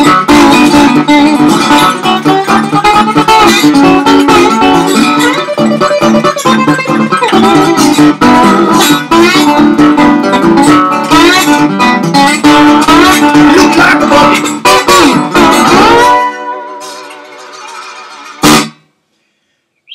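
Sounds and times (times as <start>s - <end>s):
slide guitar fingerstyle: 0.0s - 18.8s.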